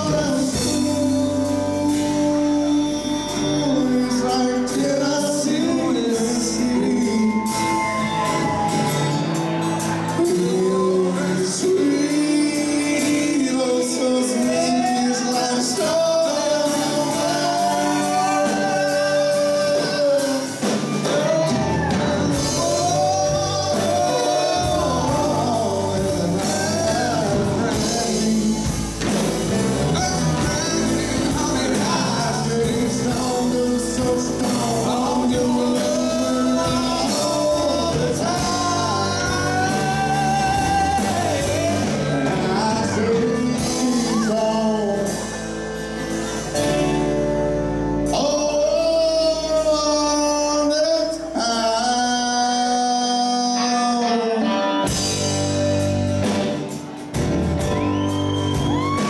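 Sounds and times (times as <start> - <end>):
deep bass: 0.0 - 14.7, 15.7 - 52.4, 54.9 - 59.0
man singing: 0.0 - 47.1, 47.8 - 56.8
live country band playing: 0.0 - 59.0.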